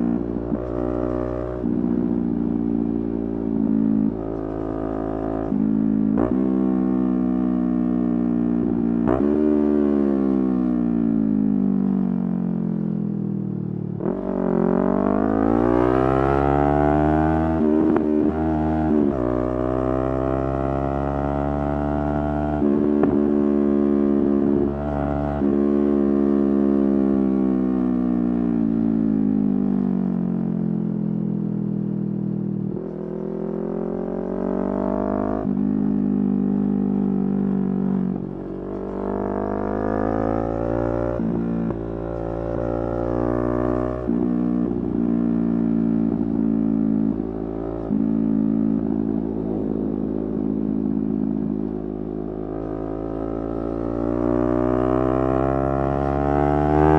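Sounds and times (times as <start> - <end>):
motorcycle engine revving: 0.0 - 11.2, 14.0 - 27.4, 32.7 - 56.9.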